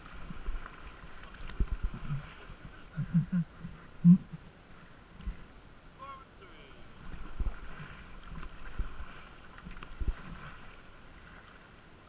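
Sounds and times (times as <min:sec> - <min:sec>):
paddle noise: 0:00.0 - 0:12.0
quiet river water: 0:00.0 - 0:12.0.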